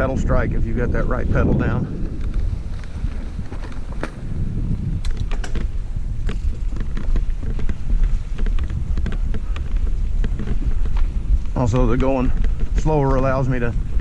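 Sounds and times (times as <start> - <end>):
bike clicking and rattling: 0.0 - 14.0
wind on microphone: 0.0 - 14.0.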